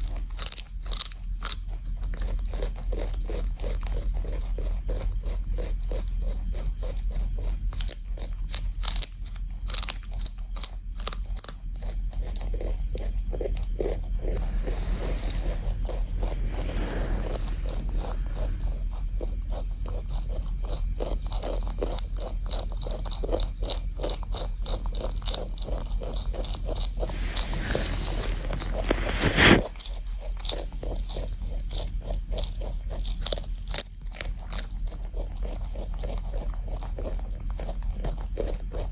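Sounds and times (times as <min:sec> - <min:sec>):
rabbit crunching celery: 0:00.0 - 0:38.9.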